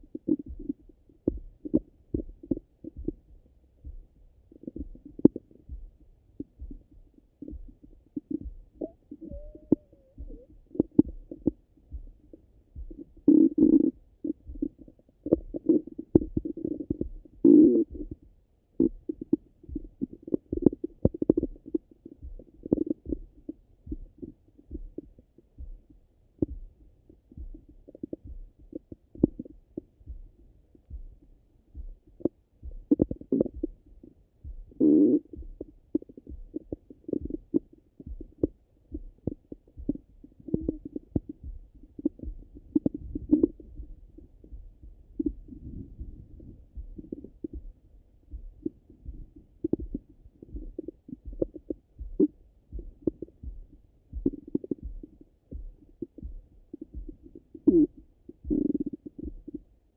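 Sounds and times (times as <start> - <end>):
stomach gurgles and pops: 0.1 - 3.3, 4.5 - 5.8, 6.4 - 25.2, 32.1 - 33.8, 34.7 - 53.5, 54.1 - 59.6.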